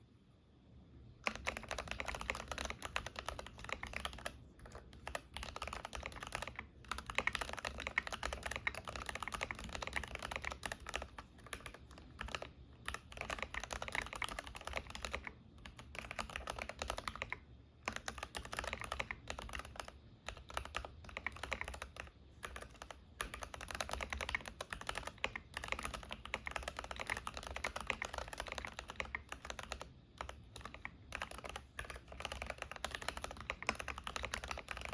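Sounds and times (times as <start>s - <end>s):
keyboard typing: 1.2s - 34.9s.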